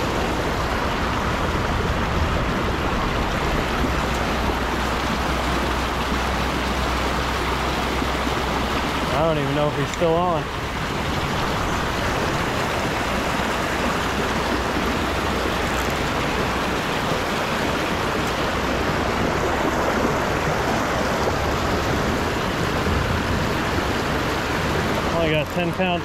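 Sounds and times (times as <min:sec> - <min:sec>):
flowing canal water rushing: 0:00.0 - 0:26.0.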